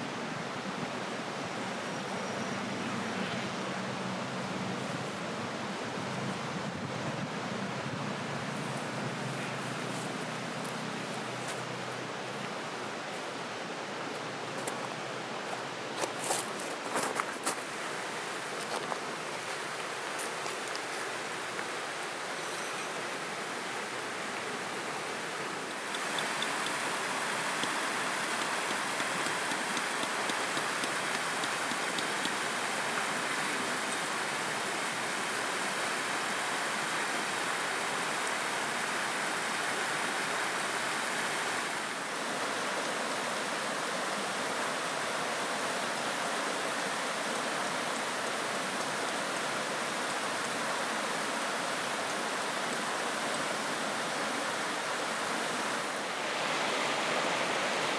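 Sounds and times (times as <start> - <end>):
flowing river water: 0.0 - 57.9.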